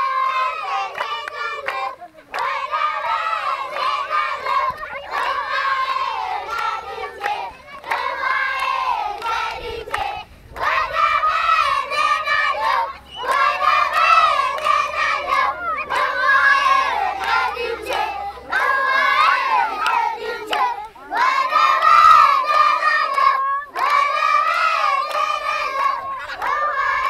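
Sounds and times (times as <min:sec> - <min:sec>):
children chanting in unison: 0:00.0 - 0:27.0
hands clapping: 0:00.7 - 0:11.0, 0:11.9 - 0:27.0.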